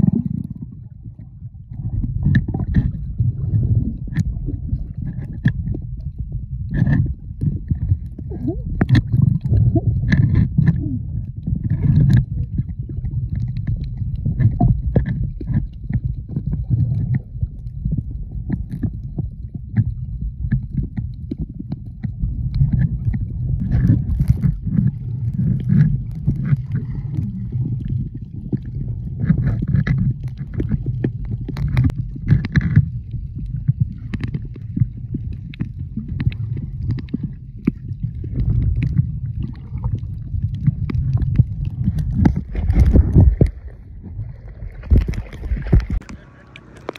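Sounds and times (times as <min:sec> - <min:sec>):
bubbles clicking and crackling: 0:00.0 - 0:46.9
muffled underwater rumble: 0:00.0 - 0:46.9.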